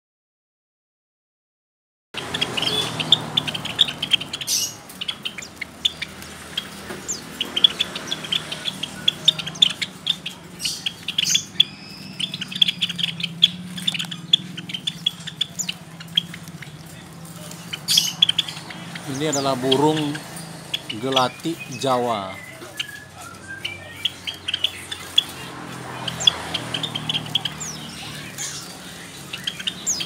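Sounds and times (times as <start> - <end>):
sparrows chirping: 2.2 - 30.0.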